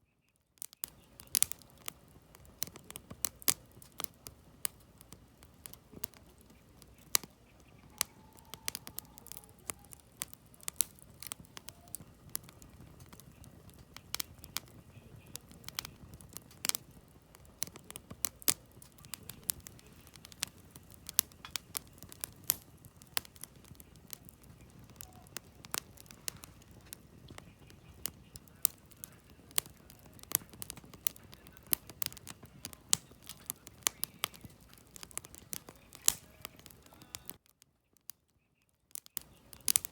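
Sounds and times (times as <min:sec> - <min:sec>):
campfire crackling and popping: 0:00.3 - 0:39.9.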